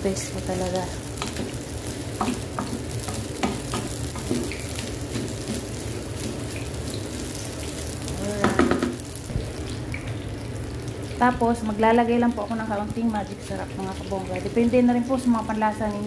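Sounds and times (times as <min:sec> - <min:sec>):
rice sizzling in oil: 0:00.0 - 0:16.0.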